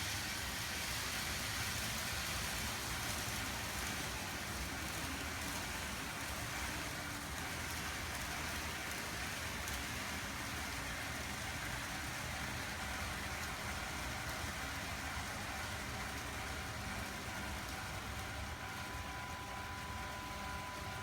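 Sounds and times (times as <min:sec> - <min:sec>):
model trains rolling on track: 0:00.0 - 0:21.0.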